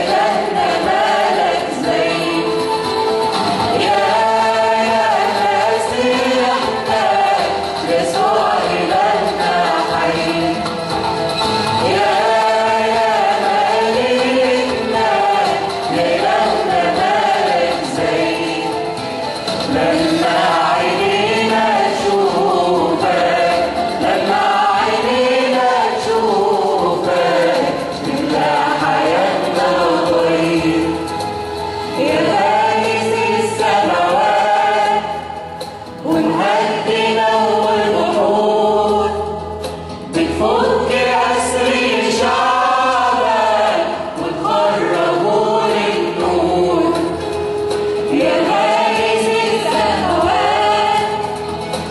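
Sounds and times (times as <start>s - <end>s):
church choir singing a hymn: 0.0s - 51.9s.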